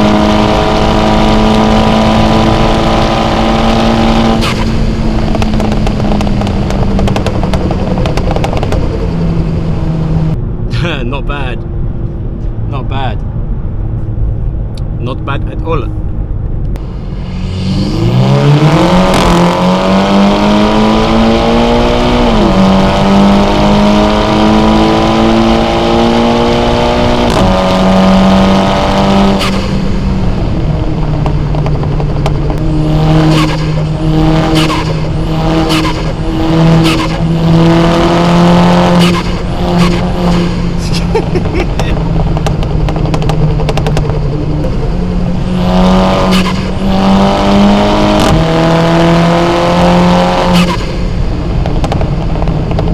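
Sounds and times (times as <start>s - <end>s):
car engine revving hard: 0.0s - 10.4s, 16.8s - 52.9s
sharp exhaust crackles: 0.0s - 10.4s, 16.8s - 52.9s.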